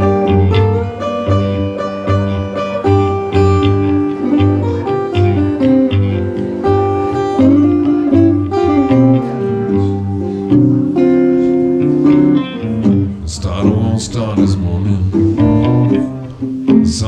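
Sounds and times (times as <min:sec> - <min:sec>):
acoustic blues guitar: 0:00.0 - 0:17.0.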